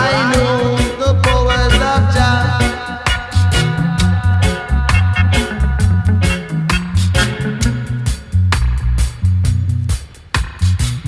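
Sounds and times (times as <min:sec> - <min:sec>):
reggae instrumental music: 0:00.0 - 0:11.0.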